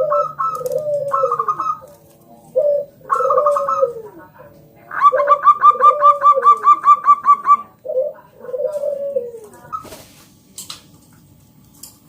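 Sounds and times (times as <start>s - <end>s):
dove cooing: 0.0s - 10.0s.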